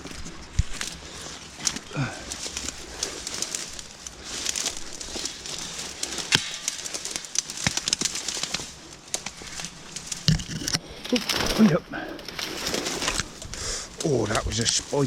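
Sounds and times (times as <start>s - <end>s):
leaves brushing: 0.0s - 15.0s
twigs crackling and snapping: 0.0s - 15.0s.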